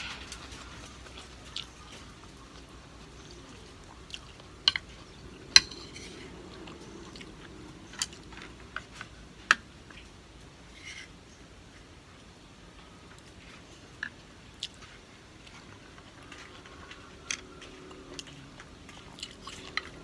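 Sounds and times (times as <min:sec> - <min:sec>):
chewing: 0:00.0 - 0:10.1, 0:12.8 - 0:20.0.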